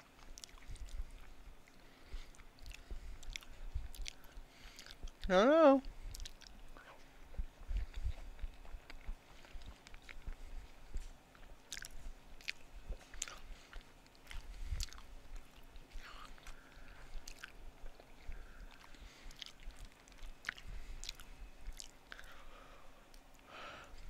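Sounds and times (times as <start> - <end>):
person chewing with wet smacks: 0.0 - 24.0.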